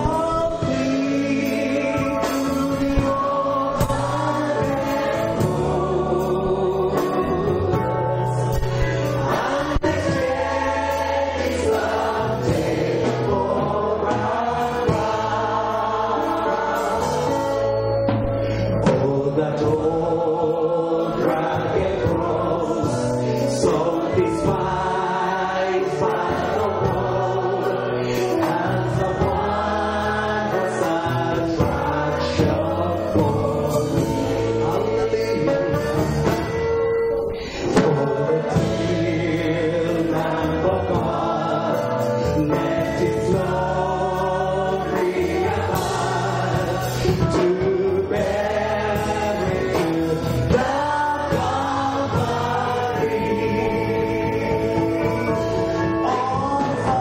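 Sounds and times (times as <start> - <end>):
man singing into a microphone: 0.0 - 10.7, 11.6 - 57.0
choir and congregation singing: 0.0 - 57.0.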